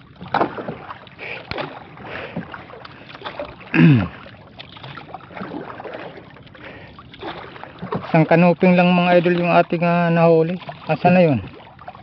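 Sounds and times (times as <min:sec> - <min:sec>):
paddle pulling through water: 0:00.0 - 0:12.0
water splashing against hull: 0:00.0 - 0:12.0.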